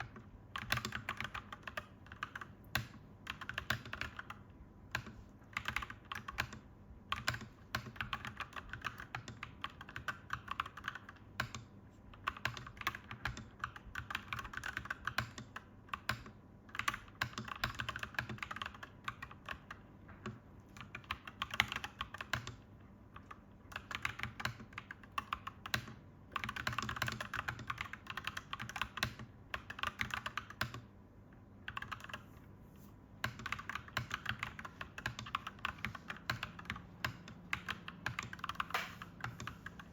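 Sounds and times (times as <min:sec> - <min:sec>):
mechanical keyboard typing: 0:00.0 - 0:31.0, 0:31.6 - 0:32.3, 0:33.2 - 0:39.9
faint steady hum: 0:00.0 - 0:39.9.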